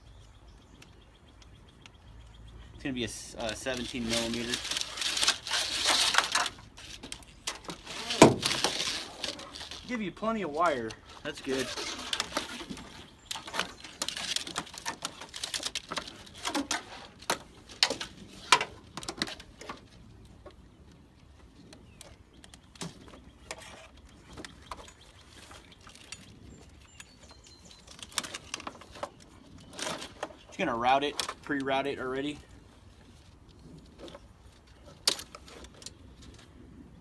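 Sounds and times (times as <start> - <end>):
hands handling electrical wires: 2.9 - 36.6.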